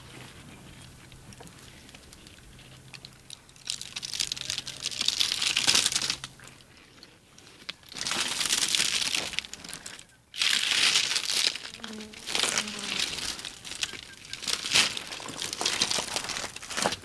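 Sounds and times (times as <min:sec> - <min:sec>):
elephant tearing leaves crunching: 0:02.8 - 0:17.0.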